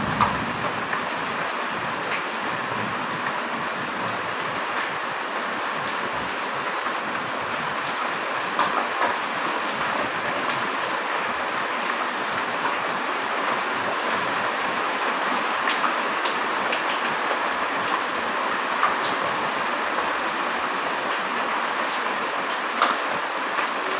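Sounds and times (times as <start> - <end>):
heavy rain: 0.0 - 23.9.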